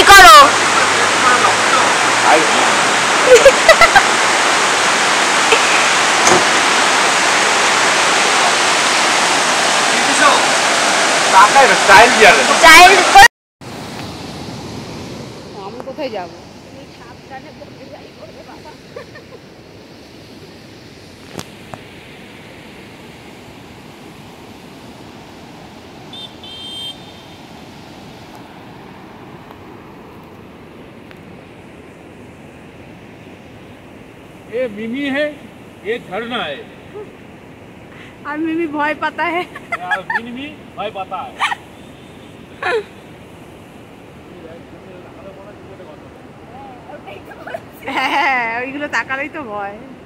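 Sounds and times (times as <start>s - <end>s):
river rushing over boulders: 0.0s - 50.0s.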